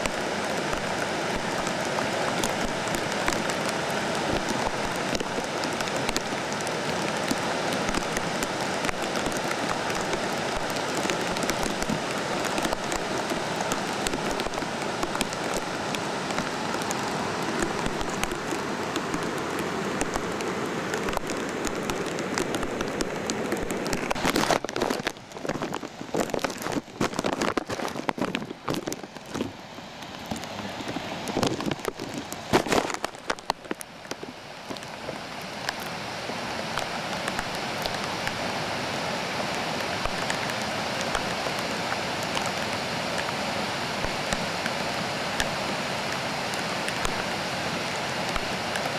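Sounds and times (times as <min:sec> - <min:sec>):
rain hiss: 0:00.0 - 0:48.9
rushing floodwater: 0:00.0 - 0:48.9.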